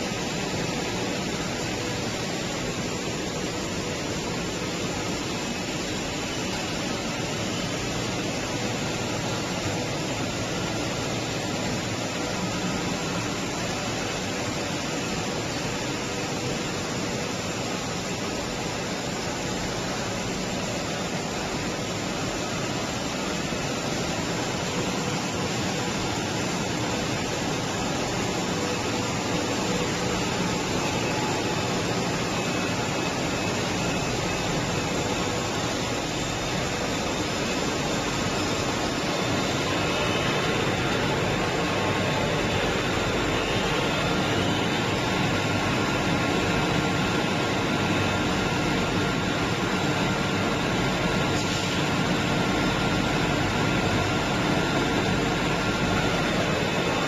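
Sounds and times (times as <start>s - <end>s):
faint machinery hums: 0.0s - 57.0s.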